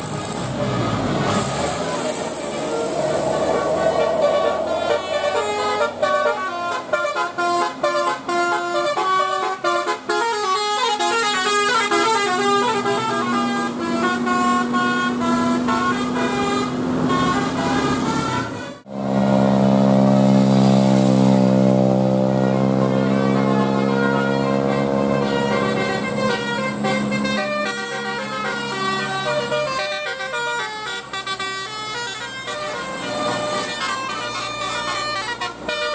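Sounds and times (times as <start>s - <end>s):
bus musical horn tune: 0.2s - 19.8s, 22.0s - 35.9s
horns holding steady chord: 0.7s - 19.6s, 22.2s - 35.9s.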